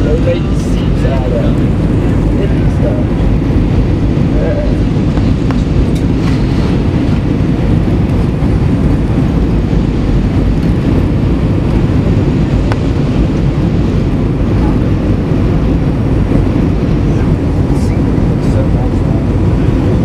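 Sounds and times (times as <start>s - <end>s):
airplane cabin roar: 0.0s - 20.0s.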